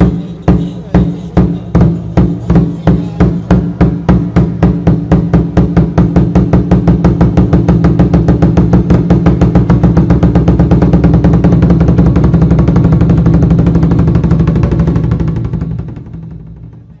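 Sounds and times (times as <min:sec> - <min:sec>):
large drum roll: 0:00.0 - 0:17.0.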